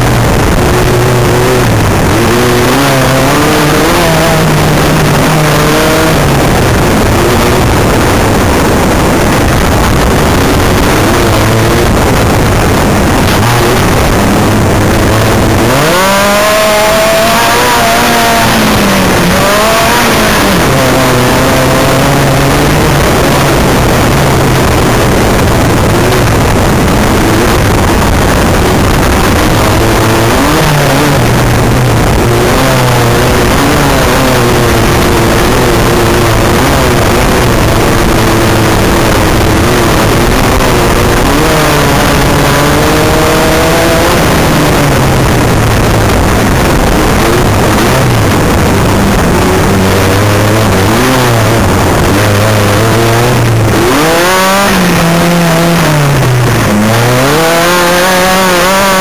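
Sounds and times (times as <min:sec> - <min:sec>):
buggy engine revving: 0:00.0 - 0:59.0
steady rushing noise: 0:00.0 - 0:59.0.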